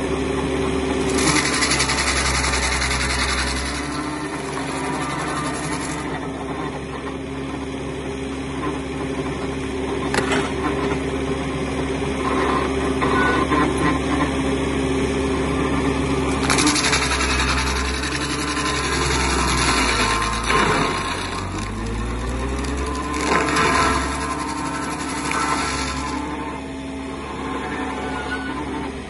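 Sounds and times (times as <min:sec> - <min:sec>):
machine engine running: 0:00.0 - 0:29.0.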